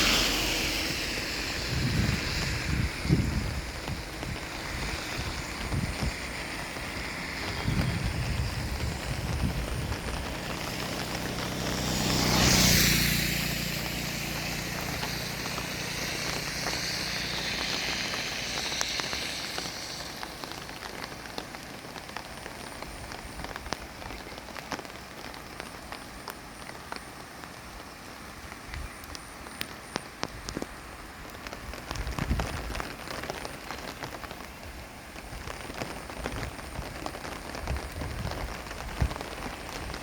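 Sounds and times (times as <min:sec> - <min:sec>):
wind buffeting microphone: 0:00.0 - 0:24.2, 0:29.9 - 0:40.0
water hissing with crackling patter: 0:00.0 - 0:40.0.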